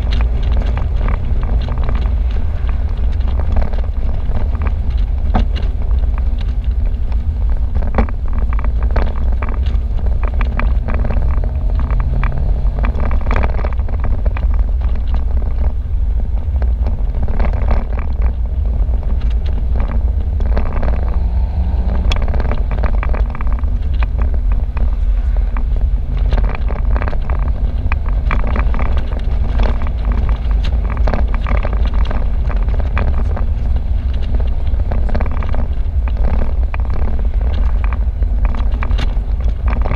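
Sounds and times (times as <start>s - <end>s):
car engine: 0.0s - 39.9s
tyre noise: 0.0s - 39.9s
wind rushing over microphone: 0.0s - 39.9s.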